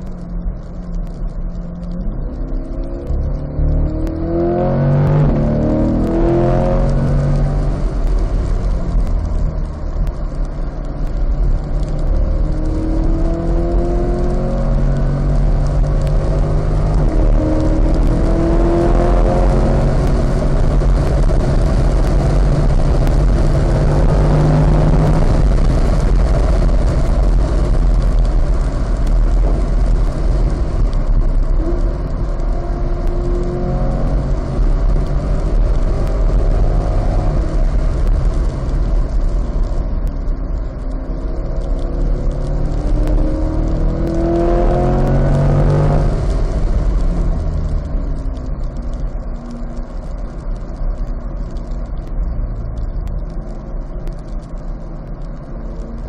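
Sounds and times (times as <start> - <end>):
car engine accelerating and shifting: 0.0 - 56.0
tyre and road noise on wet surface: 0.0 - 56.0.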